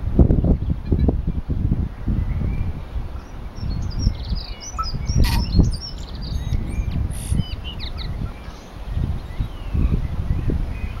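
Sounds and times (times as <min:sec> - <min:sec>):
bird singing whistled notes: 0:01.9 - 0:11.0.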